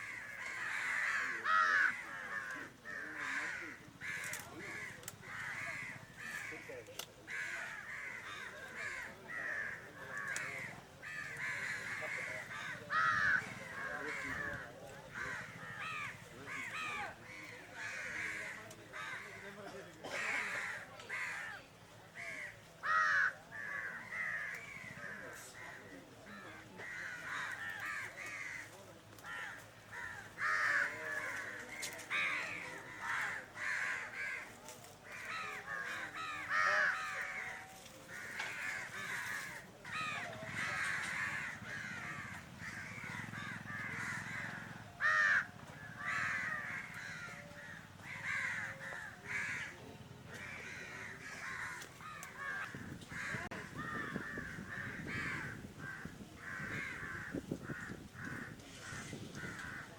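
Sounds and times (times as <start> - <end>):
flock of birds calling: 0.0 - 59.9.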